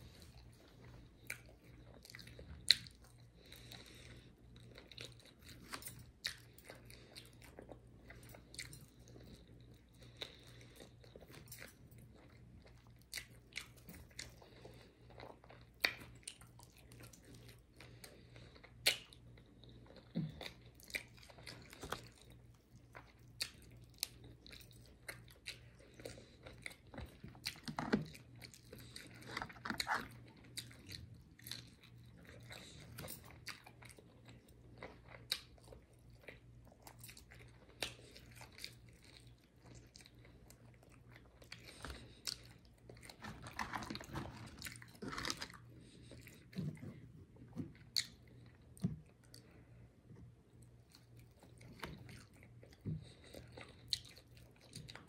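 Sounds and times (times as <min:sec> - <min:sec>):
crunching bites and chewing: 0:00.0 - 0:49.6, 0:50.6 - 0:55.0.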